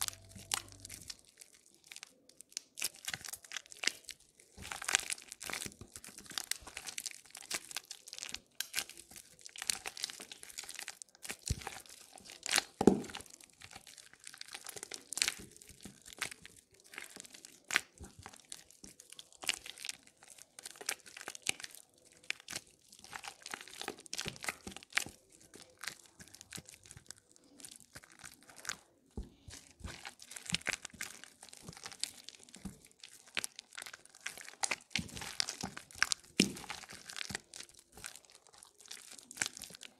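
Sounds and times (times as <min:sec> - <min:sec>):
wet soap crunching and crackling: 0:00.0 - 0:39.9.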